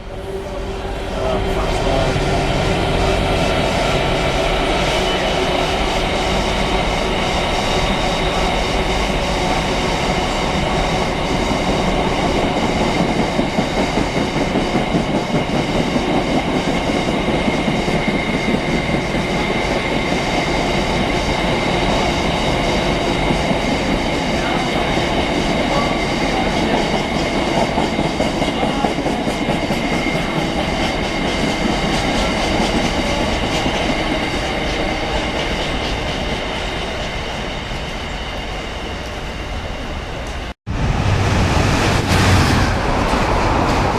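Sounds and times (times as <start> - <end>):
freight train wheels clattering: 1.4 - 38.0.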